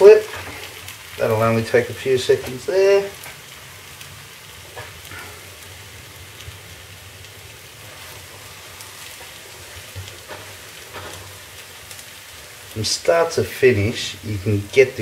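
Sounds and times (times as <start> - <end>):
crepe sizzling in a frying pan: 0.0 - 15.0.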